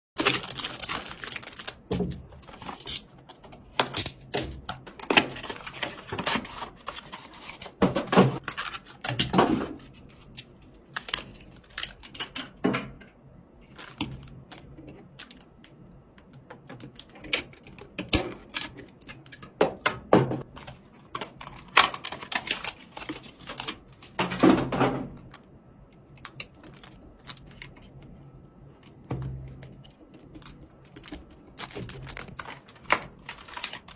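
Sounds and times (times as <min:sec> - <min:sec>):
computer hardware clicking and rattling: 0:00.2 - 0:13.0, 0:13.7 - 0:19.8, 0:20.4 - 0:33.9.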